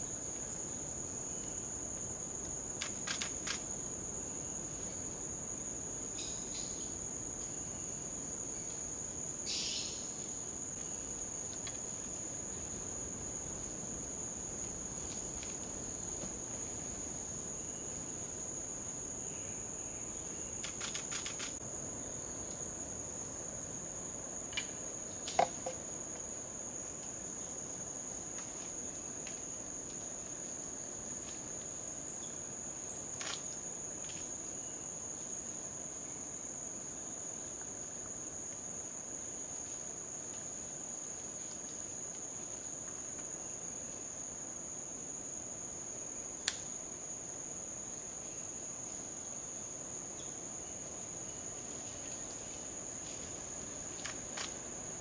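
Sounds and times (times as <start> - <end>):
forest insects droning: 0.0 - 55.0.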